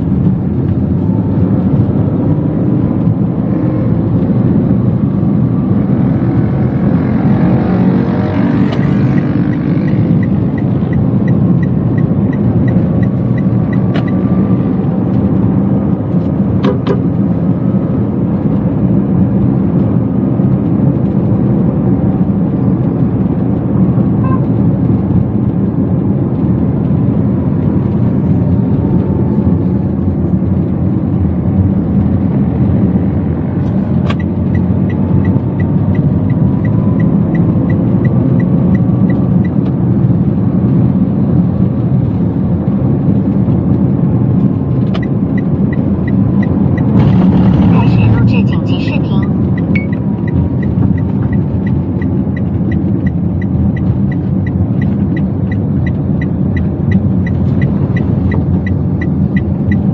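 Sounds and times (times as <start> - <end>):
engine and road rumble: 0.0 - 59.9
turn signal ticking: 0.0 - 59.9.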